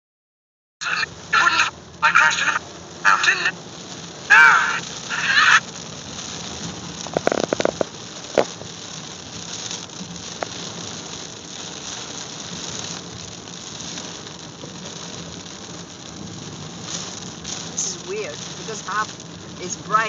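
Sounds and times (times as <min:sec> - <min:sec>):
rain hitting car windshield: 0:00.8 - 0:20.0.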